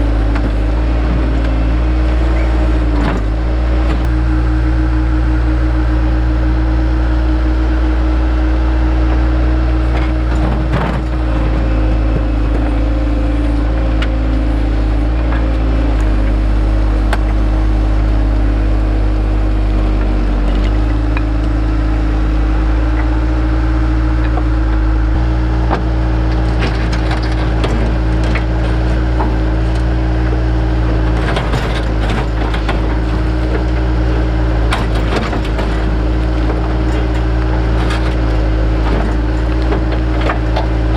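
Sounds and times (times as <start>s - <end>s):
engine running under load: 0.0s - 40.9s.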